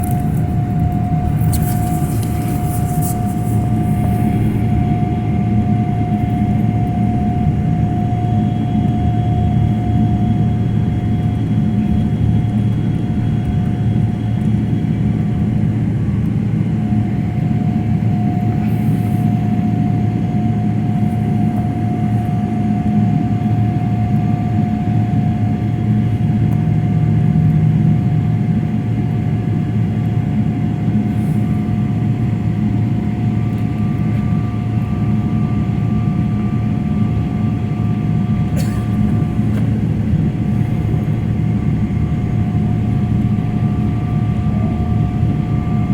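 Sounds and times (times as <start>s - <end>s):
airliner cabin rumble: 0.0s - 45.9s
thin steady whine: 0.0s - 45.9s.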